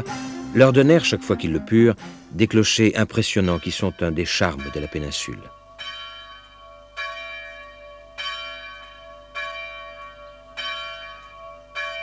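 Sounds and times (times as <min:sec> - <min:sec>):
church bell tolling: 0:00.0 - 0:12.0.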